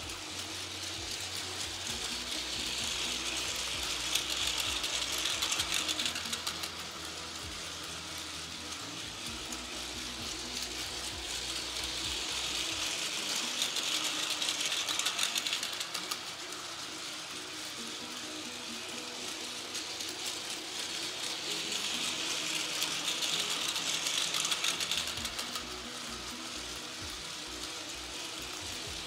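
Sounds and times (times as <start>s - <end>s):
toy train motor whirring: 0.0s - 29.0s.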